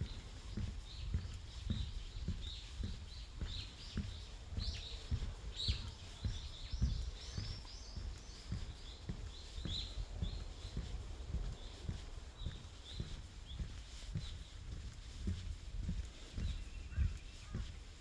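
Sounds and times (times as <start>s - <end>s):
footsteps on forest path: 0.0s - 18.0s
small birds chirping: 0.0s - 18.0s.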